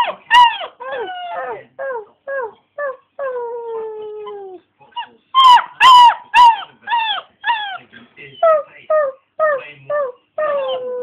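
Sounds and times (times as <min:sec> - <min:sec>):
puppy howling and yelping: 0:00.0 - 0:07.8, 0:08.4 - 0:11.0.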